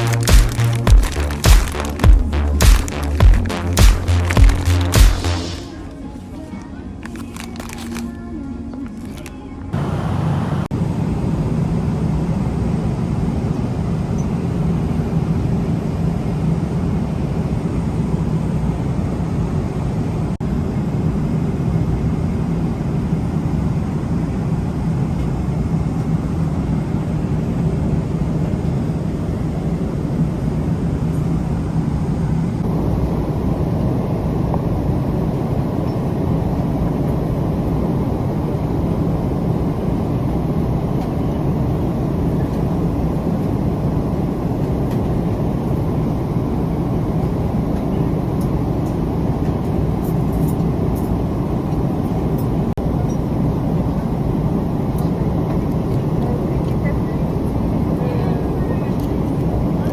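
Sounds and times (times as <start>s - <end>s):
airliner engine rumble: 0.0s - 59.9s.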